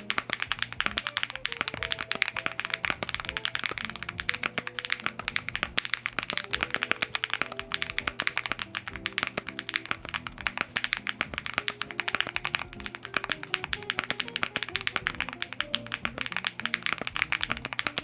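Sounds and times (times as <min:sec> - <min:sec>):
mechanical keyboard typing: 0:00.0 - 0:18.0
soft music: 0:00.0 - 0:18.0.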